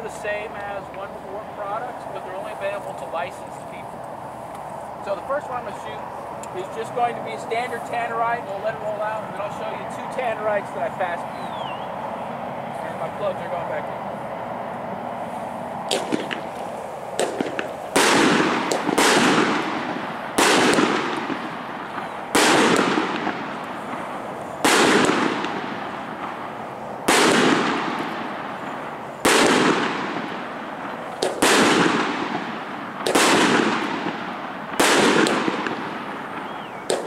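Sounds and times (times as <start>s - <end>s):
firework reports: 0.0s - 14.0s, 15.2s - 37.0s
long rolling echo: 0.0s - 37.0s.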